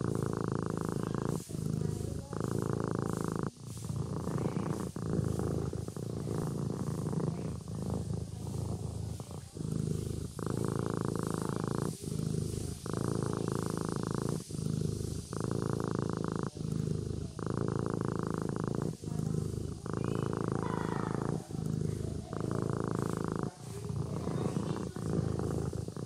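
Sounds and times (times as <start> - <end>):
kitten purring: 0.0 - 26.0.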